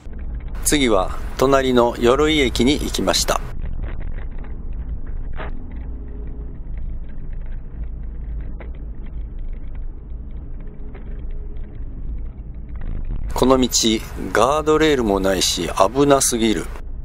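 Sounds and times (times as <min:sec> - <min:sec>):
faint clicks: 0:00.0 - 0:16.8
car engine and tyres rumbling: 0:00.0 - 0:17.0.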